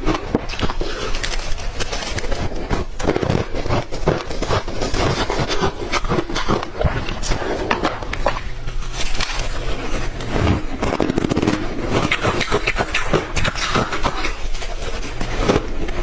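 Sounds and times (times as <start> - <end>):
ice crunching in mouth: 0.0 - 16.0.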